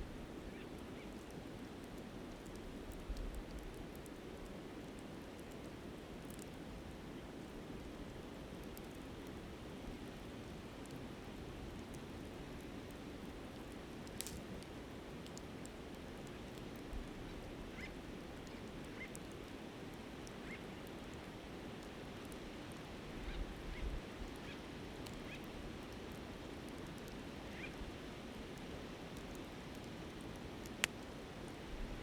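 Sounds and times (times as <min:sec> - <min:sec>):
campfire crackling: 0:00.1 - 0:32.0.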